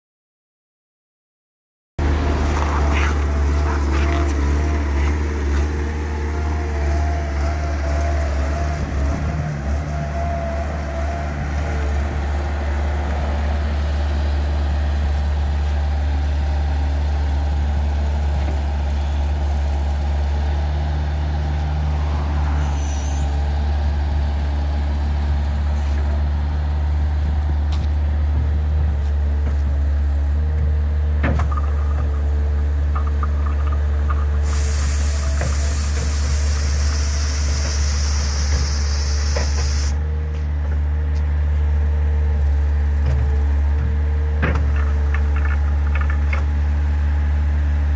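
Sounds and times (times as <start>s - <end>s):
diesel engine running: 2.0s - 47.9s.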